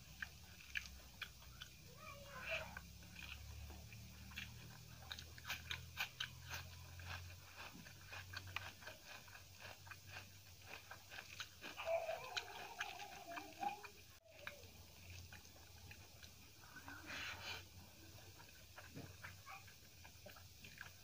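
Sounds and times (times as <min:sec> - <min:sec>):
chewing crunchy rice: 0:00.0 - 0:21.0.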